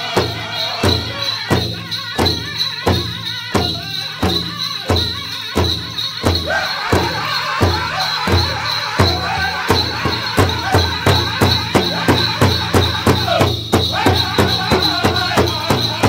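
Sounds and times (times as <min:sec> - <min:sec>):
big drum beating: 0:00.0 - 0:16.0
voices singing: 0:00.0 - 0:16.0.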